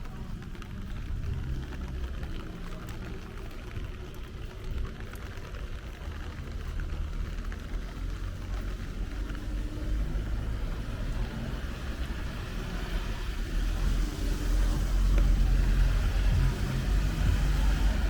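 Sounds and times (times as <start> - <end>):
hiss of wet road and rain: 0.0 - 18.0
vehicle engine rumble: 0.0 - 18.0.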